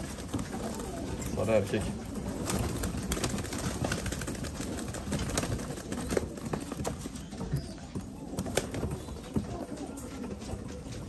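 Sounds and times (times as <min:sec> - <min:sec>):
pigeons cooing: 0:00.0 - 0:11.0
pigeons shuffling: 0:00.0 - 0:11.0.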